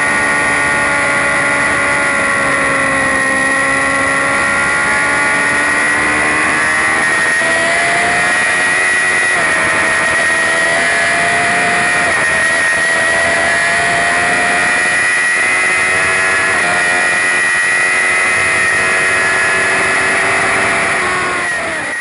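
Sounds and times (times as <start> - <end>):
gear upshifts: 0.0 - 22.0
motorcycle engine at full throttle: 0.0 - 22.0.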